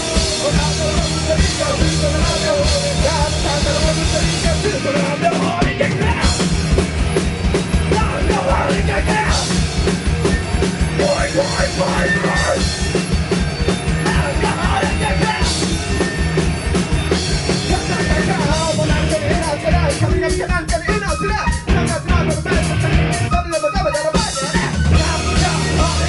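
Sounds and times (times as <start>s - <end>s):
loud rock music: 0.0s - 26.0s.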